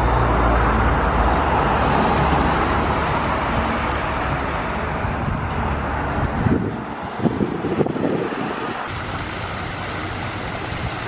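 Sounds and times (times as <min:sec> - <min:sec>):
vehicle passing on road: 0:00.0 - 0:11.0.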